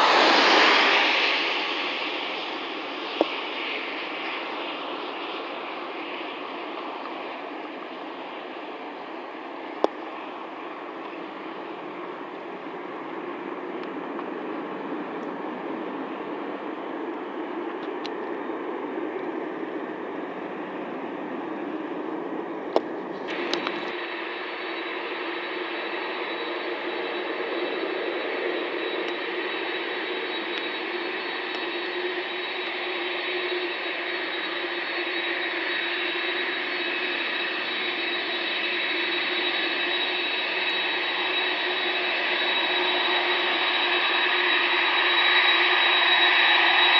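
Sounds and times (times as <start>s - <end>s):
distant jet taking off: 0.0s - 46.9s
jet engines whining: 0.0s - 46.9s.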